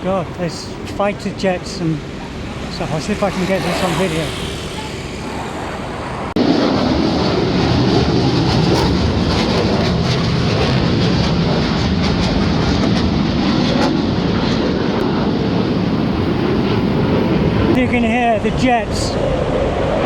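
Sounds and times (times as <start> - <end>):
fighter jets roaring overhead: 0.0 - 20.0.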